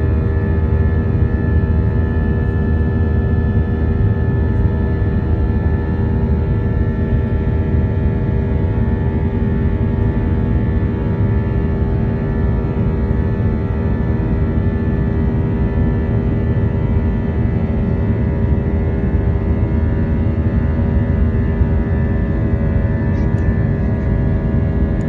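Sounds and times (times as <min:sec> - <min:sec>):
airplane cabin engine rumble: 0:00.0 - 0:25.0
steady humming tones: 0:00.0 - 0:25.0.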